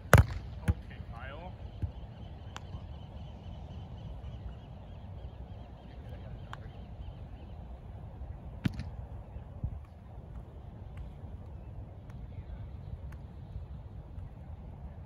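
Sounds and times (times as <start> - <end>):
wind rumble on microphone: 1.7 - 15.0.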